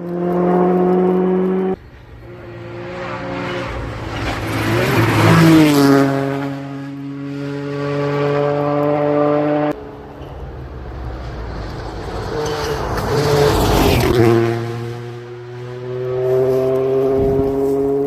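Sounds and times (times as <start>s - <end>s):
car engine passing at speed: 0.0s - 18.0s.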